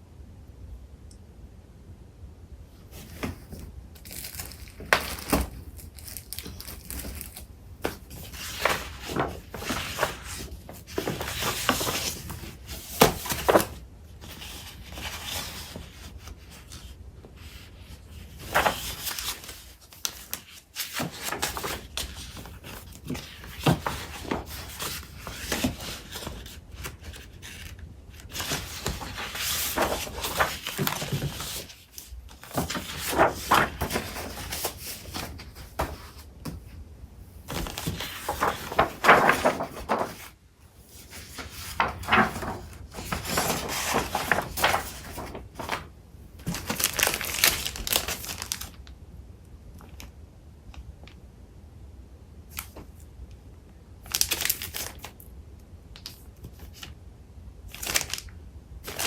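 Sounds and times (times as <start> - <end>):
paper rustling and crinkling: 2.9 - 48.9, 54.1 - 55.3, 57.7 - 59.0.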